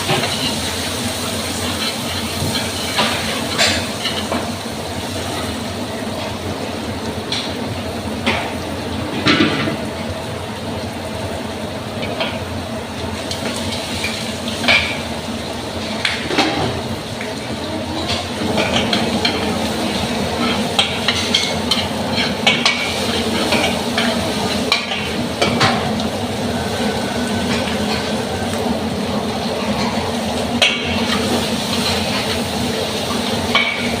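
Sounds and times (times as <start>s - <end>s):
food sizzling in a pan: 0.0s - 6.5s, 10.9s - 34.0s.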